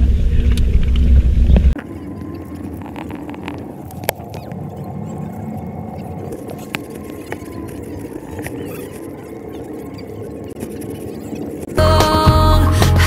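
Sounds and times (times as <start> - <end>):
cable car low rumble: 0.0 - 12.8.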